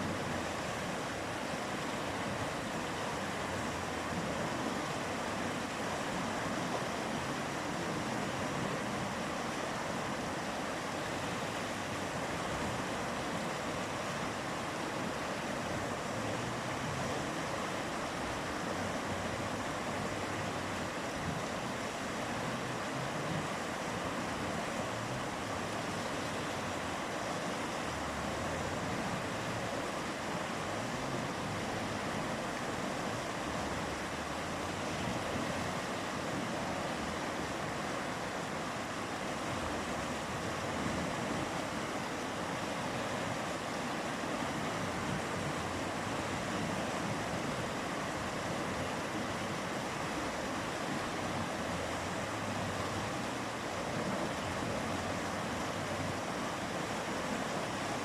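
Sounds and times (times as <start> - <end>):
mountain river rushing: 0.0 - 58.0.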